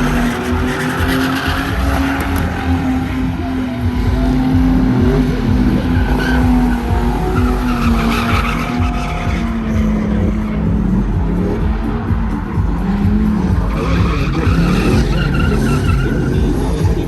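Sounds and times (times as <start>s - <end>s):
truck engine revving high: 0.0s - 17.0s
tyres spinning and squealing: 0.0s - 17.0s.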